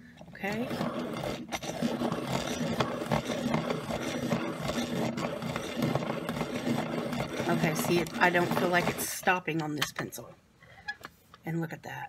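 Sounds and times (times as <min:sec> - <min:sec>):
hand-crank pencil sharpener shaving: 0:00.0 - 0:09.7.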